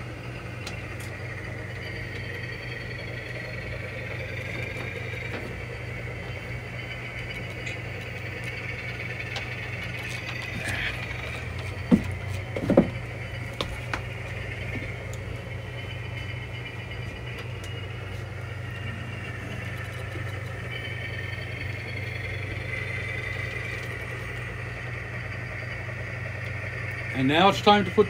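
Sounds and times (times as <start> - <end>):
model train humming and whining: 0.0 - 28.0.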